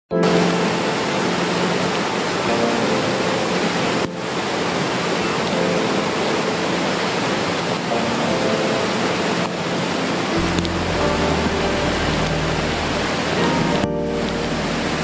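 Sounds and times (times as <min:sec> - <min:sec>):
floodwater rushing: 0:00.2 - 0:15.0.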